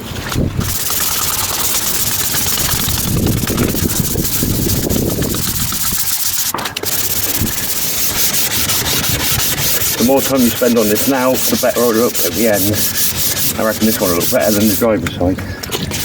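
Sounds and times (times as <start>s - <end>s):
wet sandpaper rubbing on plastic: 0.6s - 15.1s, 15.7s - 16.0s.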